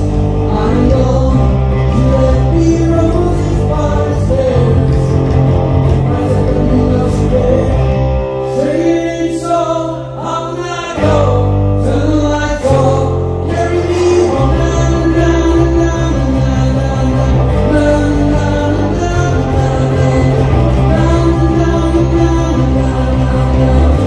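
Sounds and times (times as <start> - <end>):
bass guitar: 0.0 - 24.0
guitar: 0.0 - 24.0
man singing: 0.0 - 24.0.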